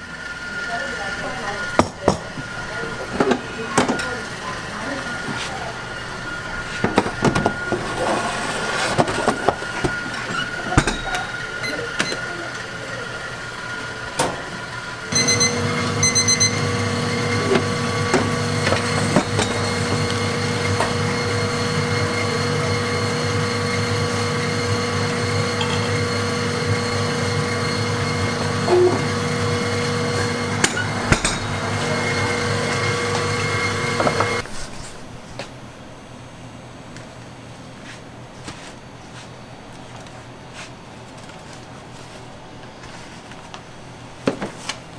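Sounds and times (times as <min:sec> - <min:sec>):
steady machine hum: 0:00.0 - 0:44.2.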